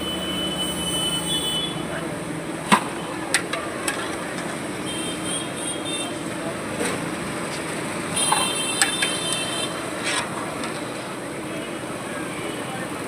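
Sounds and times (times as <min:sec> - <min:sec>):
busy street noise: 0:00.0 - 0:13.0.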